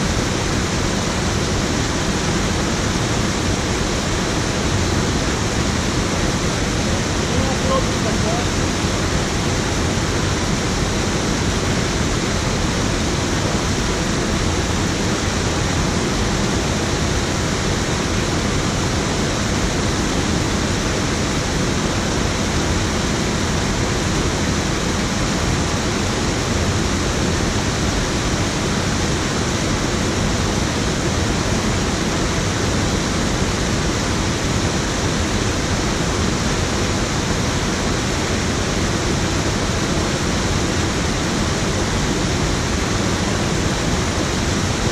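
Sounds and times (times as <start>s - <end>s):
water rushing over weir: 0.0s - 44.9s.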